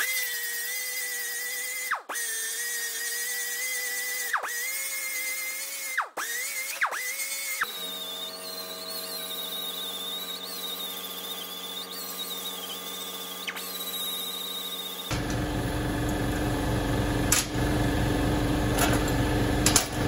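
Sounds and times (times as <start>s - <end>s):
electric grinder grinding steel: 0.0s - 20.0s.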